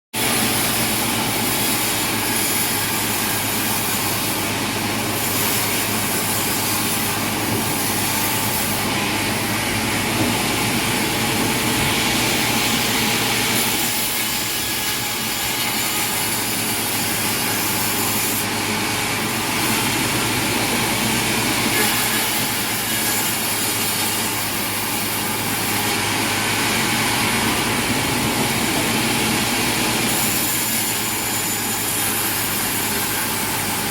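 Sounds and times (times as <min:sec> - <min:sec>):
saw cutting: 0:00.2 - 0:33.9
sawmill machinery running: 0:00.2 - 0:33.9.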